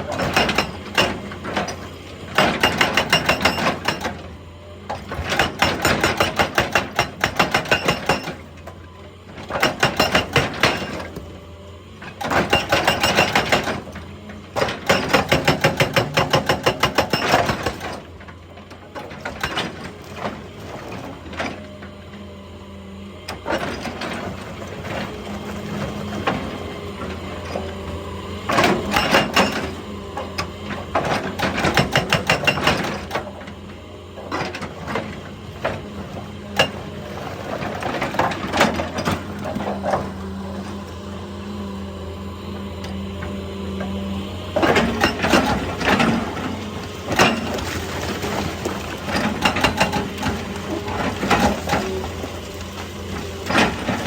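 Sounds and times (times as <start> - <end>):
hydraulic breaker hammering rock: 0.0 - 8.8, 9.4 - 11.4, 12.0 - 21.7, 23.3 - 41.6, 42.5 - 54.0
excavator engine hum: 0.0 - 54.0.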